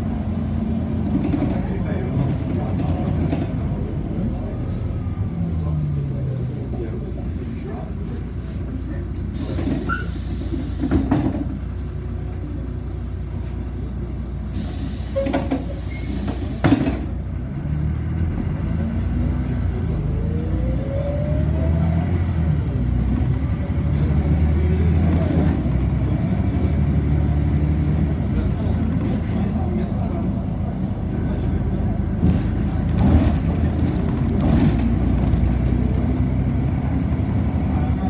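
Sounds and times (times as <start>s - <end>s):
bus engine drone with whine: 0.0s - 38.0s
bus interior rumble: 0.0s - 38.0s.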